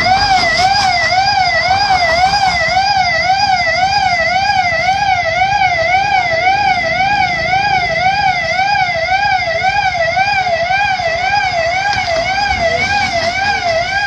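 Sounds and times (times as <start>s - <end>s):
warbling siren: 0.0s - 14.0s.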